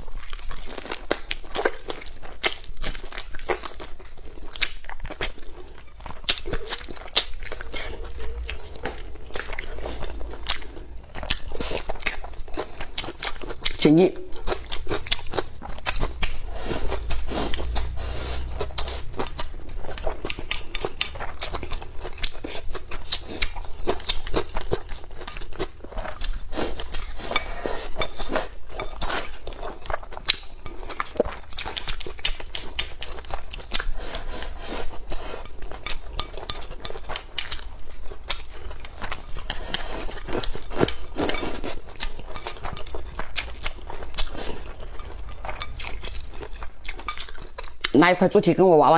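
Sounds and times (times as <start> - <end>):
chewing and biting food: 0.0 - 48.0.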